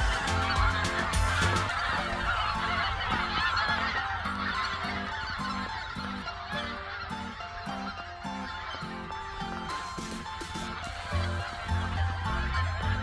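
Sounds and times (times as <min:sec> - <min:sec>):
background music with steady beat: 0:00.0 - 0:13.0
geese honking: 0:00.0 - 0:13.0.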